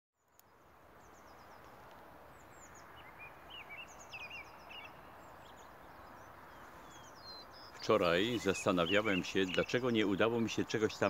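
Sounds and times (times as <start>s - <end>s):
faint outdoor background hiss: 0.2s - 11.0s
small birds chirping: 0.2s - 11.0s.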